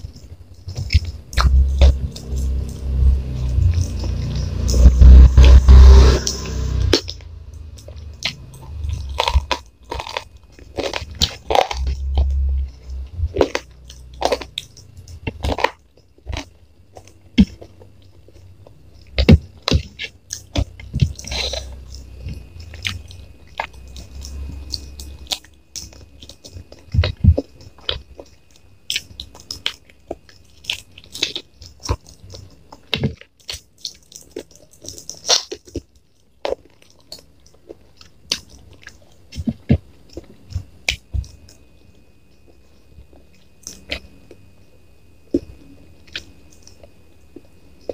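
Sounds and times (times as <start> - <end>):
crunches and mouth clicks: 0.0 - 41.7
person chewing food: 0.0 - 47.9.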